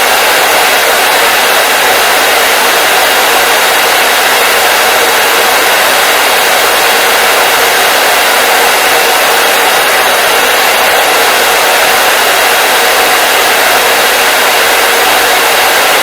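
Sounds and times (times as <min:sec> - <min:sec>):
hair dryer blowing: 0:00.0 - 0:16.0.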